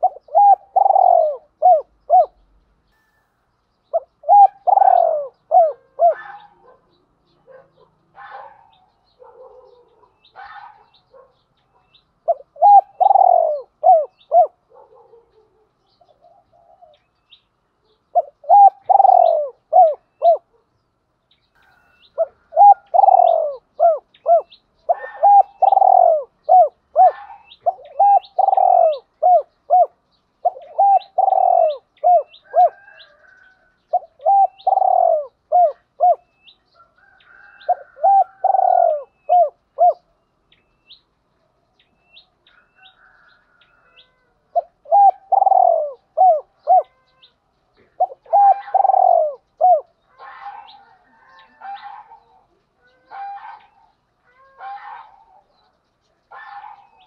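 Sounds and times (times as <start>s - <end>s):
dove cooing: 0.0s - 2.6s, 3.9s - 17.1s, 17.8s - 20.7s, 21.6s - 40.2s, 42.6s - 55.7s, 56.3s - 57.0s.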